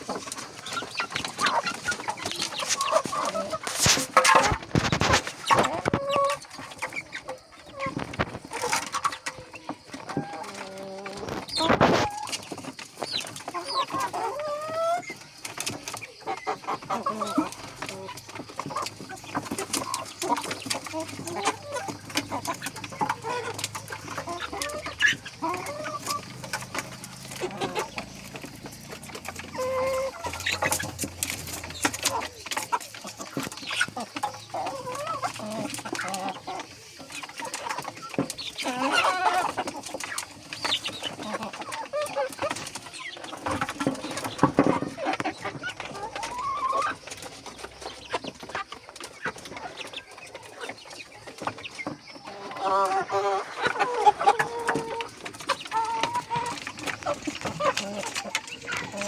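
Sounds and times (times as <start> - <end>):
clicks and scratching: 0.0 - 52.2, 52.8 - 59.0
chickens clucking: 0.0 - 59.0.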